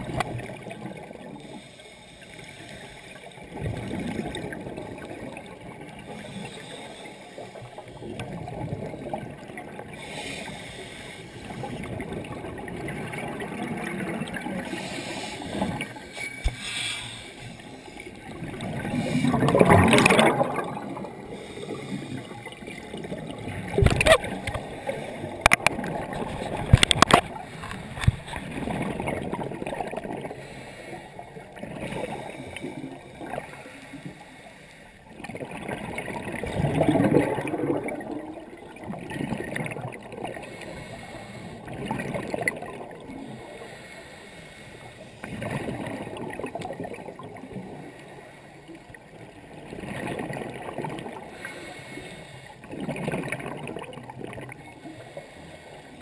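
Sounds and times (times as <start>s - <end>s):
muffled underwater exhaled bubbles: 0.0s - 1.7s, 2.3s - 34.2s, 35.1s - 43.8s, 45.0s - 56.0s.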